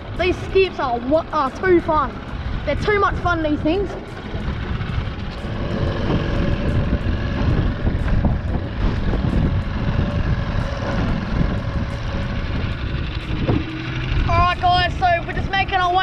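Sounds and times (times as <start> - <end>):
outboard motor running: 0.0 - 16.0
wind on microphone: 0.0 - 16.0.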